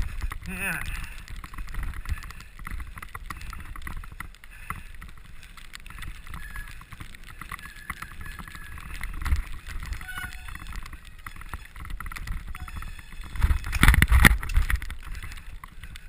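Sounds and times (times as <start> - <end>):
bicycle rattling and knocking: 0.0 - 16.0.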